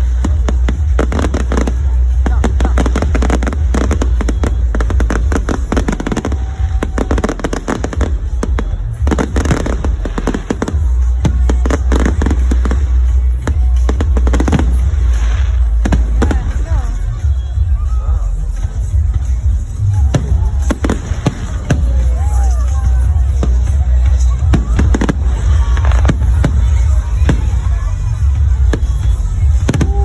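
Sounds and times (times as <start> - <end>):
fireworks crackling: 0.0 - 30.0.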